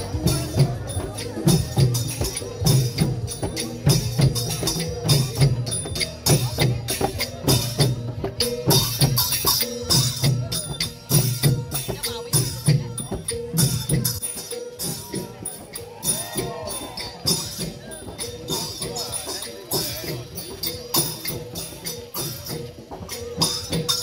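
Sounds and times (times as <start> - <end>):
hand drums beating: 0.0 - 24.0
small cymbals clashing: 0.0 - 24.0.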